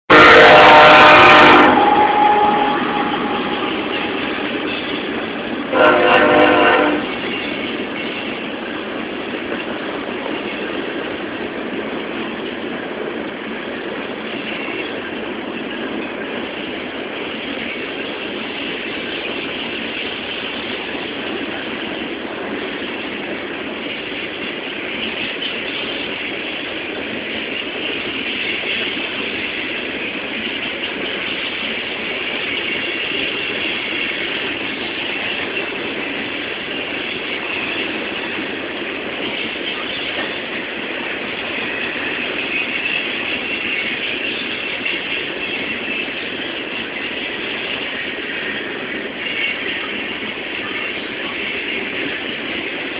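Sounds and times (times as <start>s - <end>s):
train wheels rumbling on rails: 0.1s - 52.9s.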